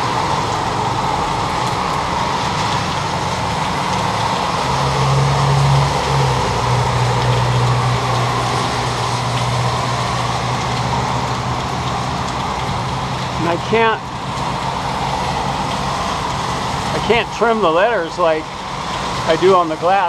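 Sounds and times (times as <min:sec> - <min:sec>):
vehicle noise: 0:00.0 - 0:20.0.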